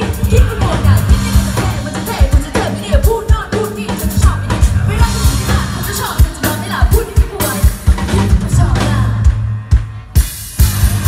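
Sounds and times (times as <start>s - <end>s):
woman singing: 0.0s - 9.4s
bass guitar: 0.0s - 11.0s
drum kit beat: 0.0s - 11.0s
electric guitar: 0.0s - 11.0s.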